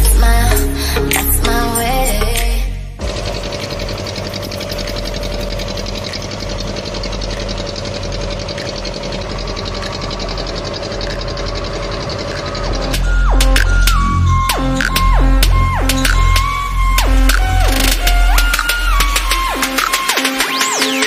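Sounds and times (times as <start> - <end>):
boat engine running: 3.0 - 21.0.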